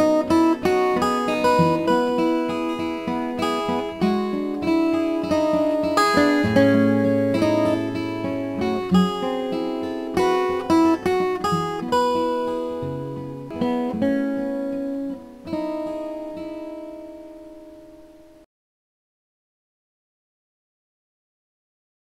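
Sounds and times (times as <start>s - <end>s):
acoustic guitar music: 0.0s - 18.5s.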